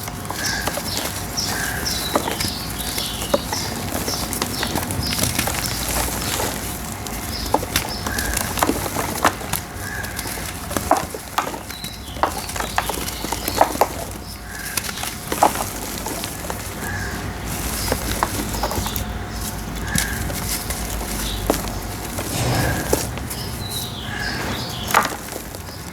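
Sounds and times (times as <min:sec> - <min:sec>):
dry dirt crumbling and crackling: 0:00.0 - 0:25.9.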